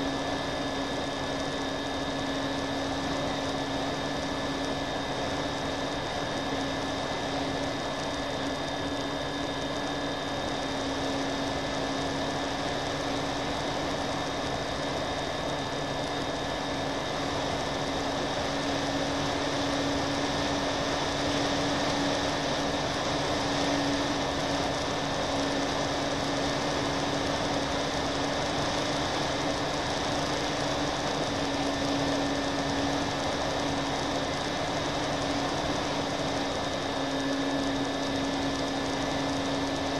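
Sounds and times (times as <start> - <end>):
model plane motors droning: 0.0 - 39.9.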